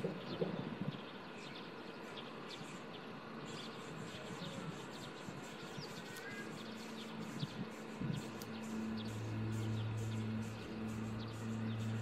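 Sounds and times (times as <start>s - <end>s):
birds chirping: 0.0s - 12.0s
steady outdoor hiss: 0.0s - 12.0s.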